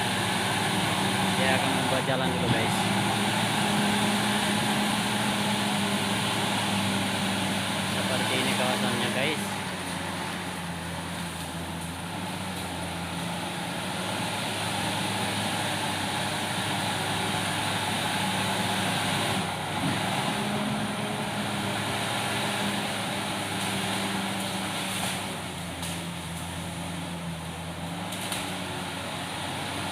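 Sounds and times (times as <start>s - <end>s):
bulldozer diesel engine under load: 0.0s - 29.9s.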